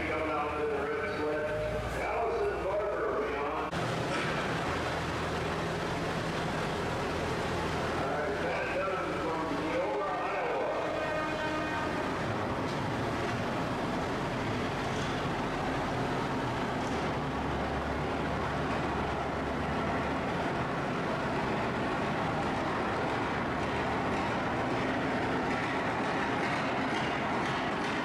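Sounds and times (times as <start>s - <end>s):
tractor engine under heavy load: 0.0s - 28.0s.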